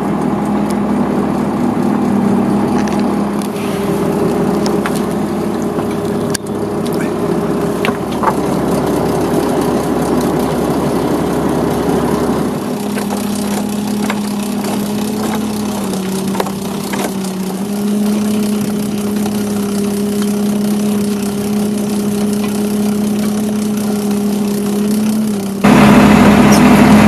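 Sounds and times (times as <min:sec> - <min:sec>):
boat engine and net hauler humming: 0:00.0 - 0:27.0.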